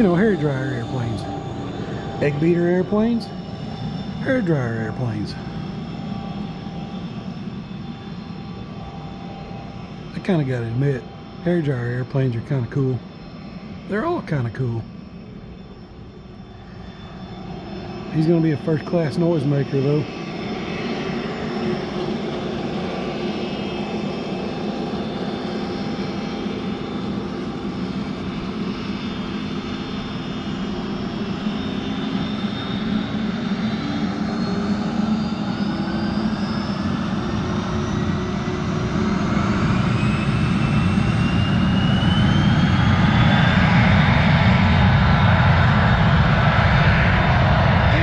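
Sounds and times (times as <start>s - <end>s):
jet engines spooling up: 0.0s - 48.0s
rising engine whine: 0.0s - 48.0s.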